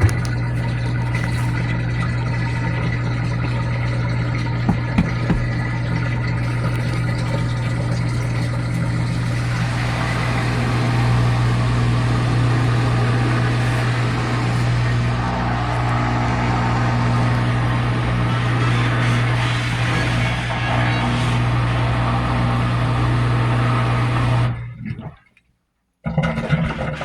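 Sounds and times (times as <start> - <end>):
water rushing and gurgling: 0.0 - 25.1
washer drain pump humming: 0.0 - 25.2.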